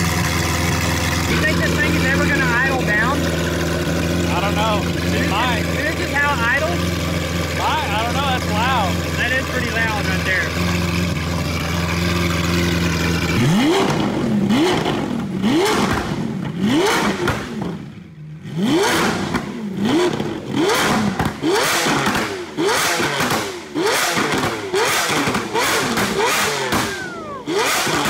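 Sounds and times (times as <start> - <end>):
exhaust pops and crackles: 0.0 - 18.0, 18.8 - 28.0
car engine revving: 0.0 - 28.0.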